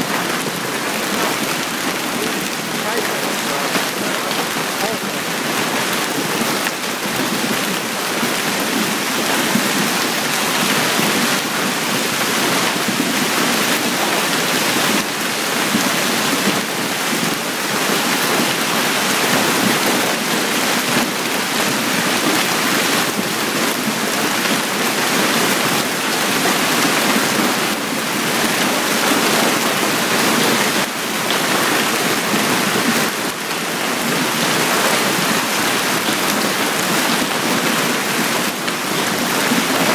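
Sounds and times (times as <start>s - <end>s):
hail pelting ground and cars: 0.0s - 39.9s.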